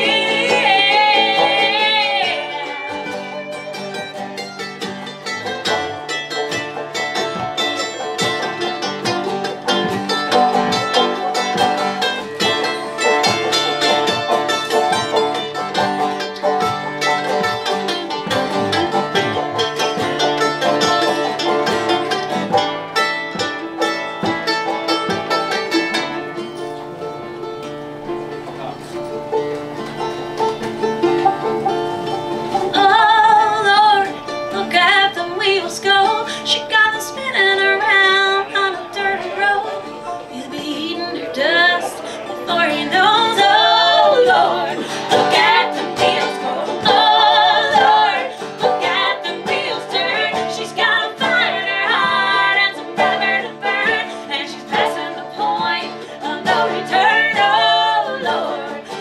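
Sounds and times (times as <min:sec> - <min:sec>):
person singing country song: 0:00.0 - 0:22.6, 0:32.4 - 0:59.0
plucked strings: 0:00.0 - 0:59.0.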